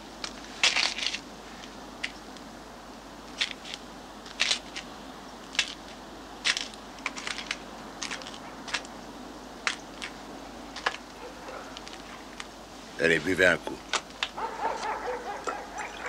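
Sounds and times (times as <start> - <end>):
dry crackling and crunching rustles: 0.0 - 16.0
faint steady hiss: 0.0 - 16.0.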